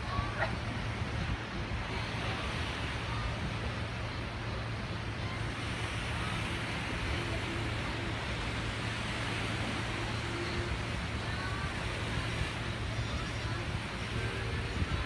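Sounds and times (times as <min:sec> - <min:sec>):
low ship hum: 0:00.0 - 0:15.0
wind and sea rushing: 0:00.0 - 0:15.0.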